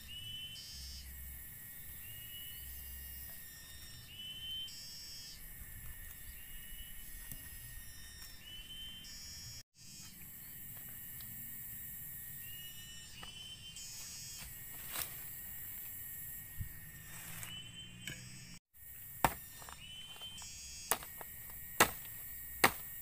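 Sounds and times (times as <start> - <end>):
forest insects chorus: 0.0 - 23.0.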